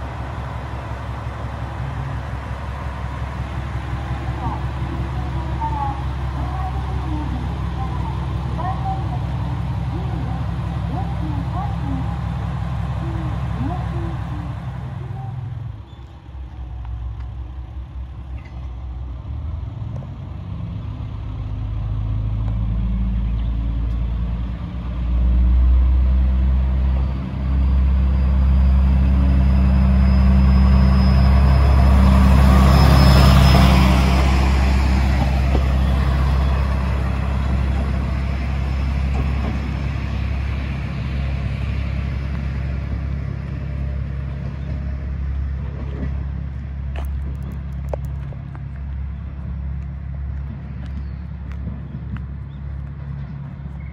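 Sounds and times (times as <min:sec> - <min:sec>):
diesel railcar departing: 0:00.0 - 0:53.9.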